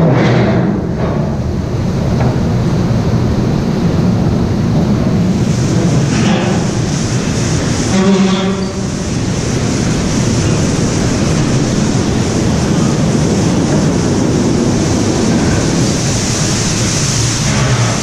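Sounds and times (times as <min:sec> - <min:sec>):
falling water: 0:00.0 - 0:18.0
ride train rumbling on track: 0:00.0 - 0:18.0.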